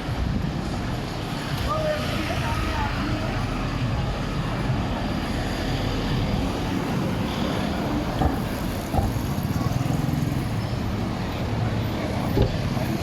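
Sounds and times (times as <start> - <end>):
motor traffic rumble: 0.0 - 13.0.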